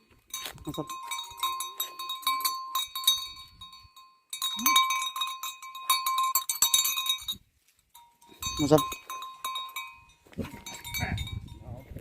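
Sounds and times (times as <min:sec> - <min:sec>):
small metal bell clanking: 0:00.0 - 0:12.0.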